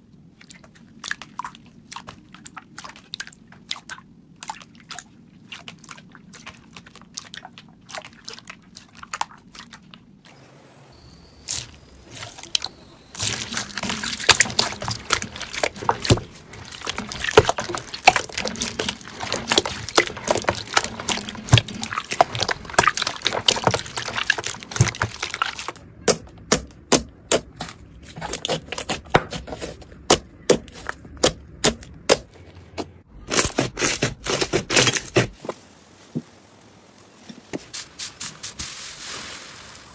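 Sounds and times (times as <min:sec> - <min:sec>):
slime squelching: 0:00.3 - 0:35.5.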